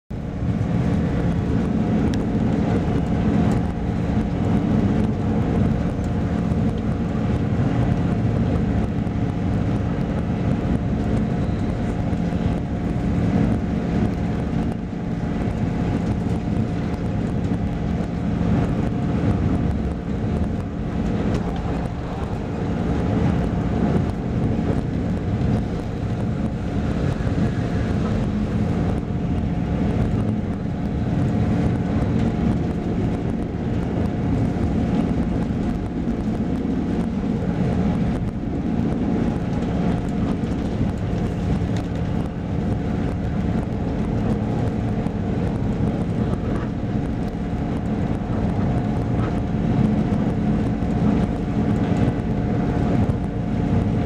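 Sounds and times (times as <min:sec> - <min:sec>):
low hum of train drive: 0:00.1 - 0:54.0
wheels rumbling on track: 0:00.1 - 0:54.0.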